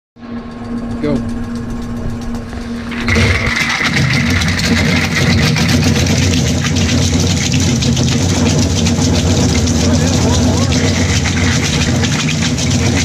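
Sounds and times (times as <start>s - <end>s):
motor humming: 0.2s - 13.0s.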